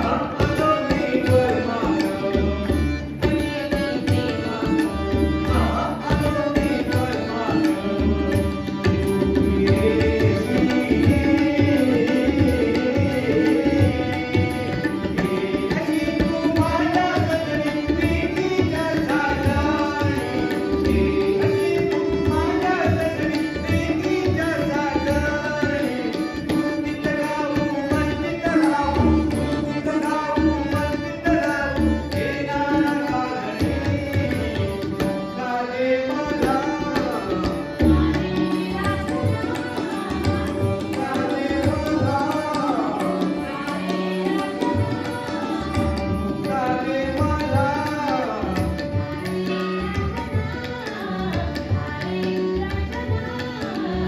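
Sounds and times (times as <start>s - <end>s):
tabla rhythm: 0.0s - 54.0s.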